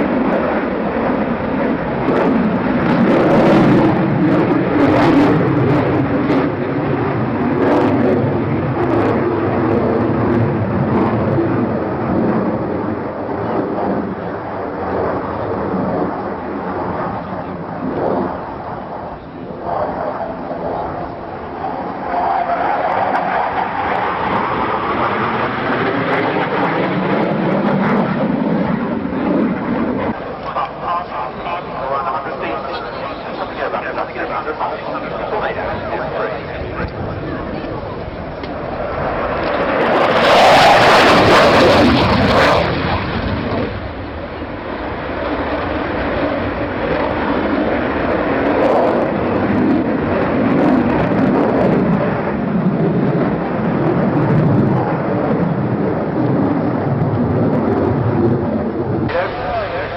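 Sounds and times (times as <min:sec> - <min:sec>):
aircraft engine noise: 0:00.0 - 0:59.9.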